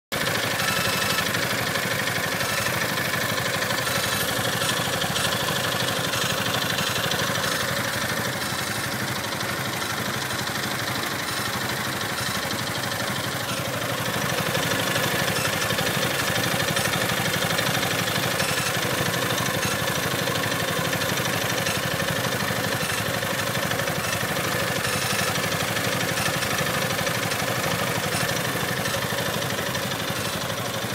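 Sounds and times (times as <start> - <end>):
scooter engine idling: 0.1 - 30.9.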